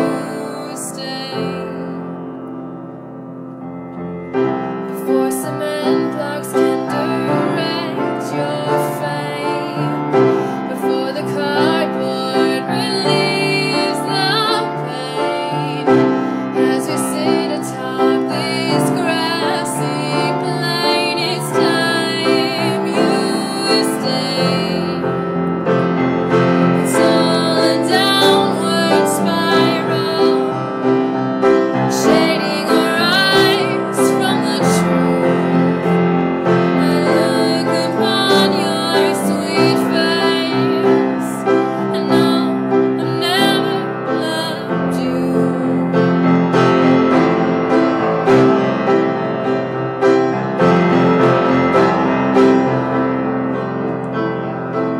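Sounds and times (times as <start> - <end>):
piano-led music: 0.0 - 54.9.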